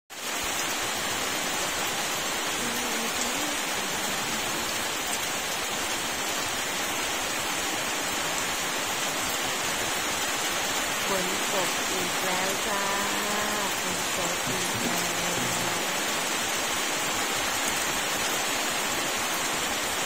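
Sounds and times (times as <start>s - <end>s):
rain on plants: 0.1s - 20.0s.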